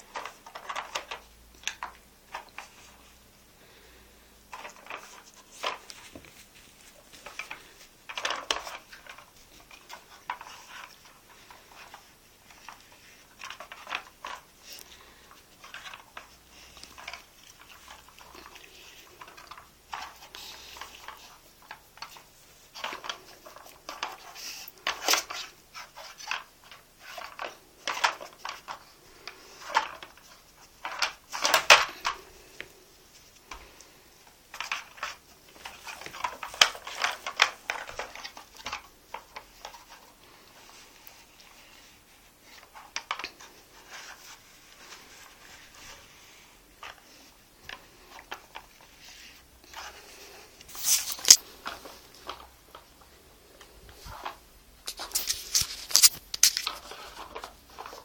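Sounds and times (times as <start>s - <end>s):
plastic puzzle toy clattering: 0.0s - 3.2s, 4.4s - 6.4s, 7.1s - 58.0s.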